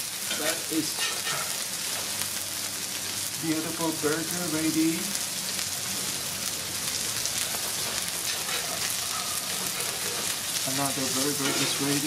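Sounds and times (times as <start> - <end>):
burger patties sizzling on griddle: 0.0 - 12.0.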